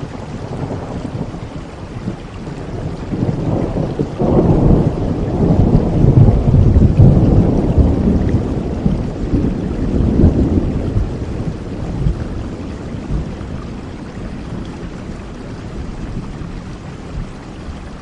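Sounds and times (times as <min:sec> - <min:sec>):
low roll of thunder: 0:00.0 - 0:17.9
steady rain: 0:00.0 - 0:18.0.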